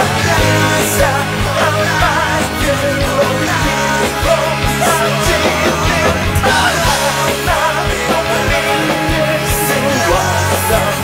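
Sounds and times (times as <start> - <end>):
bass guitar: 0.0 - 11.0
drums driving beat: 0.0 - 11.0
electric guitars: 0.0 - 11.0.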